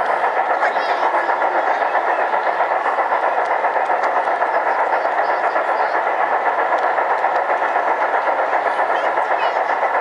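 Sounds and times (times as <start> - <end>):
model trains running on track: 0.0 - 10.0.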